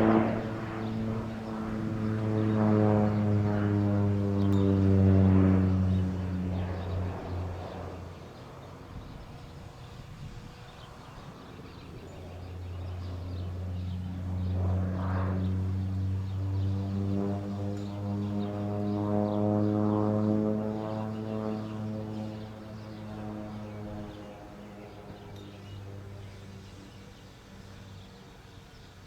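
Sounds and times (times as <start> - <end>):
airplane engine and propeller droning: 0.0 - 29.0.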